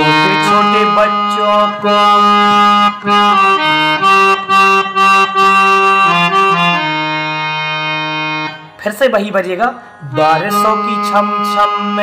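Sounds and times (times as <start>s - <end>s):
reed harmonium playing: 0.0s - 12.0s.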